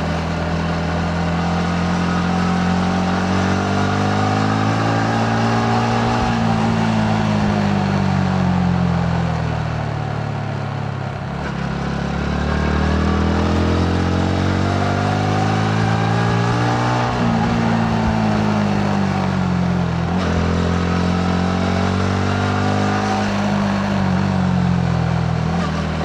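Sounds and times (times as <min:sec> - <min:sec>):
motorcycle engine revving: 0:00.0 - 0:09.6, 0:11.3 - 0:26.0
wind and road noise: 0:00.0 - 0:26.0.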